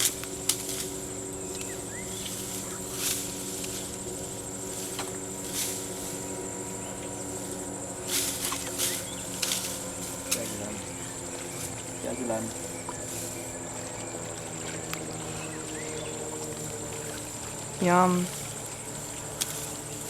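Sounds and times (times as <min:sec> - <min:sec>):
high insect drone: 0:00.0 - 0:20.0
low even hum: 0:00.0 - 0:20.0.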